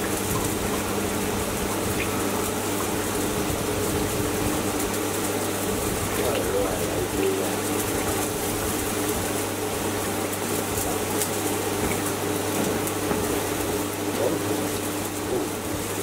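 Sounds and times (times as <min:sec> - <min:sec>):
water running from a tap: 0:00.0 - 0:16.0.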